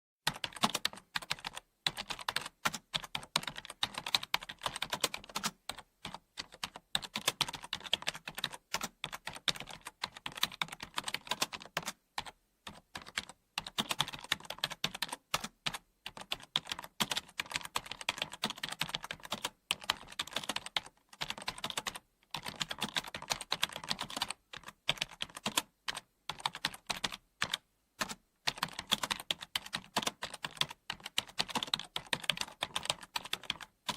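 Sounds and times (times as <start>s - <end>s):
typing on computer keyboard: 0.3s - 33.9s.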